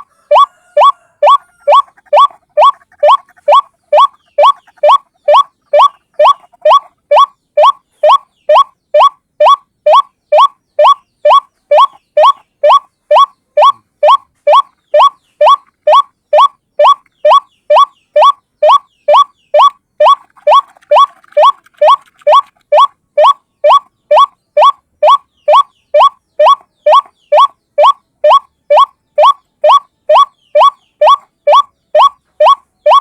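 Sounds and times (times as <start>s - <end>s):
waterhen call: 0.0s - 33.0s.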